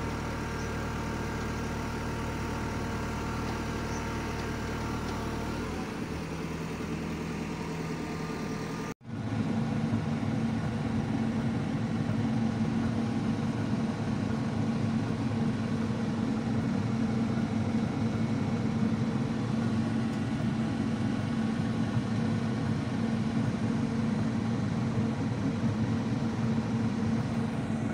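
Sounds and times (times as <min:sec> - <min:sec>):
steady low hum: 0:00.0 - 0:06.2, 0:06.8 - 0:27.9
diesel engine running: 0:00.0 - 0:27.9.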